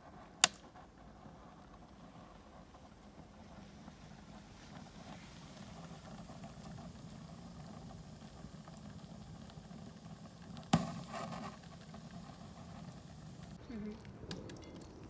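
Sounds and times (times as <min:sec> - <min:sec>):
faint background noise: 0:00.0 - 0:15.0
steady low hum: 0:00.2 - 0:13.8.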